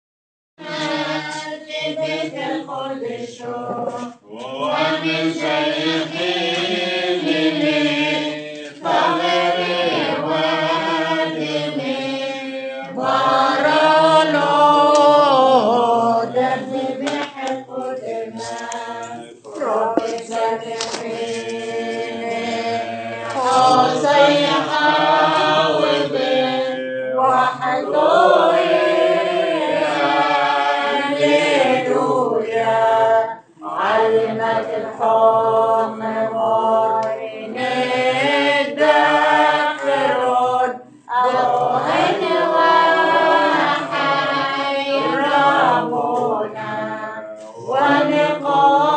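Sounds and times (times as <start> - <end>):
voices chanting a hymn: 0.6 - 48.9.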